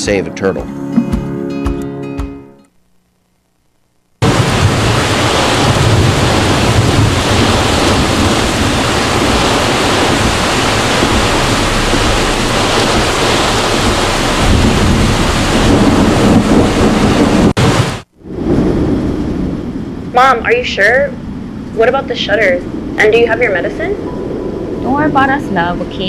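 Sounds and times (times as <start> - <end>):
heavy rain: 4.2 - 26.0
strong wind: 4.2 - 26.0.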